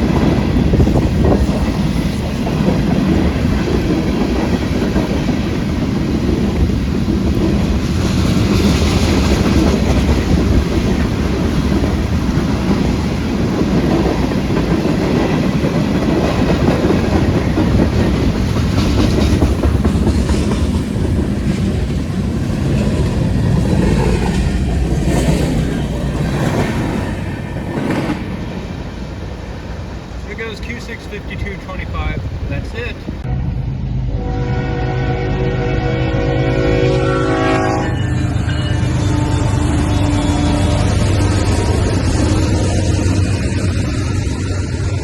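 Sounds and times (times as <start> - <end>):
freight train wheels rumbling on rail: 0.0 - 45.0.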